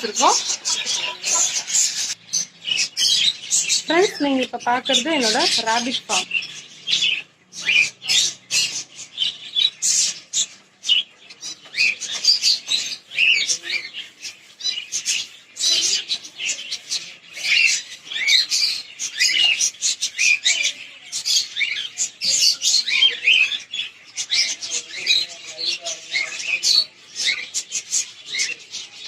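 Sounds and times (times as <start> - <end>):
caged birds chirping and squawking: 0.0 - 29.0.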